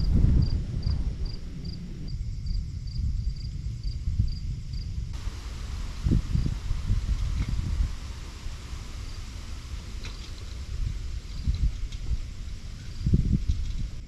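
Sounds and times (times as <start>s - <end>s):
cricket chirping: 0.0s - 14.0s
wind rumble on microphone: 0.0s - 14.0s.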